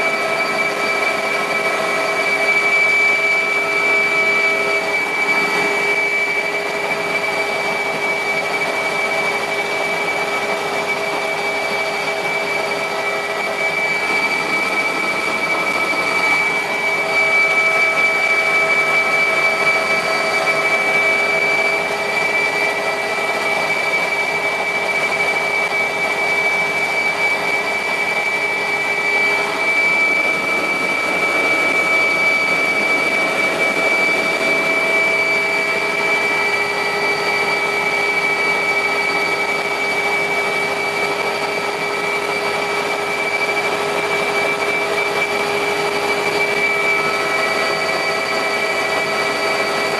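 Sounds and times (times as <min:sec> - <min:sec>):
helicopter rotor rushing: 0:00.0 - 0:49.9
helicopter turbine whine: 0:00.0 - 0:49.9.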